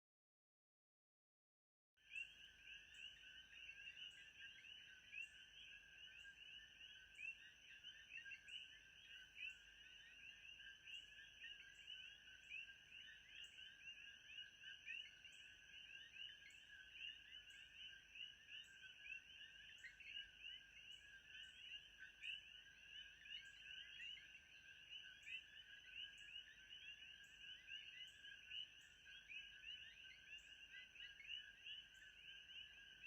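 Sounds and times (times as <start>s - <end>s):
frogs chirping: 2.0s - 33.0s.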